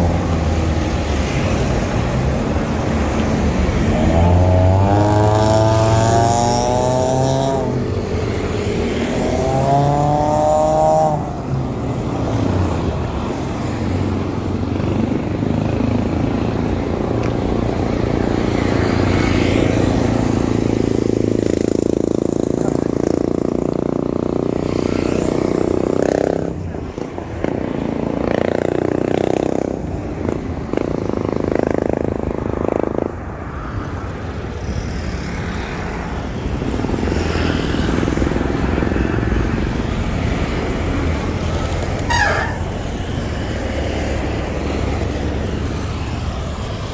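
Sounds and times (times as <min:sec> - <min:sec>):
motorcycles and cars passing: 0:00.0 - 0:46.9
wind: 0:00.0 - 0:46.9.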